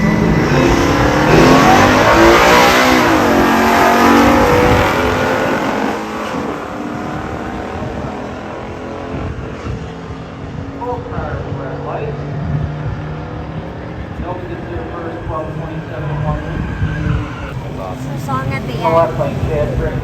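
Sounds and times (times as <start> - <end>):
car engines revving at full throttle: 0.0 - 20.0.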